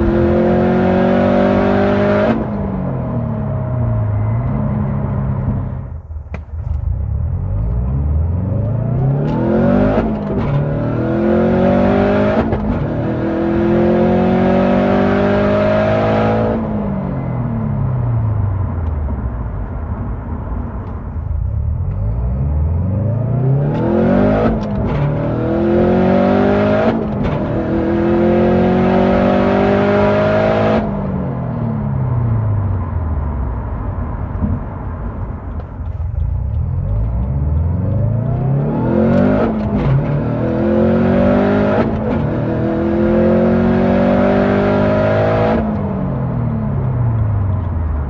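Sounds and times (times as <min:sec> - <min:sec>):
turbocharged car engine accelerating: 0:00.0 - 0:18.8, 0:21.4 - 0:34.6, 0:35.4 - 0:48.0.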